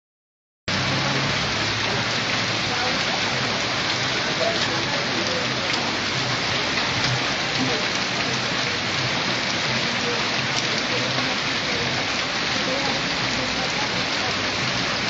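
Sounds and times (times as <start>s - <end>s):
heavy rain on street: 0.7s - 15.0s.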